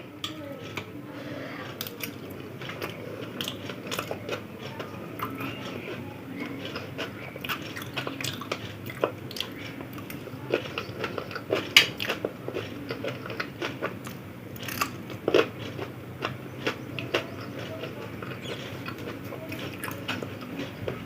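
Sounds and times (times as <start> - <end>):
person chewing and crunching: 1.7 - 21.0.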